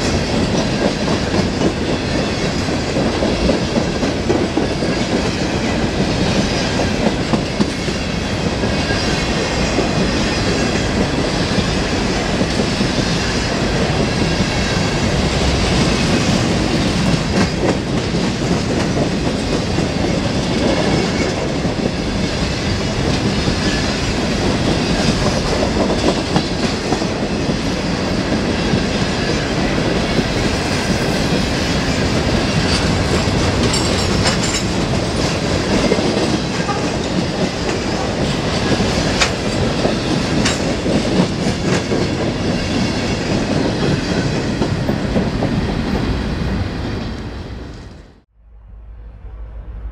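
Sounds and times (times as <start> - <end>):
clickety-clack of wheels on rails: 0.0 - 48.0
freight train cars rolling past: 0.0 - 48.2.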